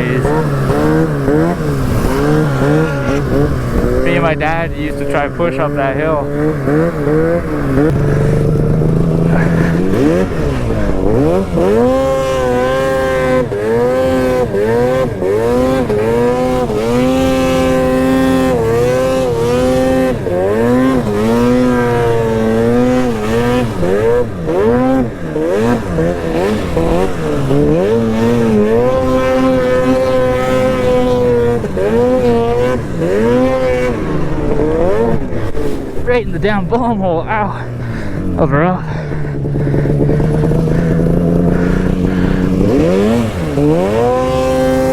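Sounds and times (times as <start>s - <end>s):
snowmobile engine revving: 0.0s - 44.9s.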